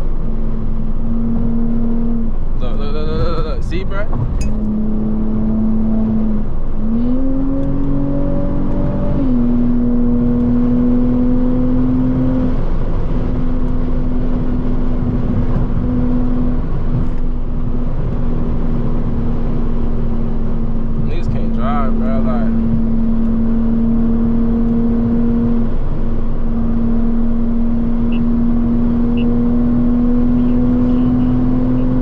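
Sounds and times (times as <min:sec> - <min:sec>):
car engine droning: 0:00.0 - 0:32.0
road and tyre noise: 0:00.0 - 0:32.0.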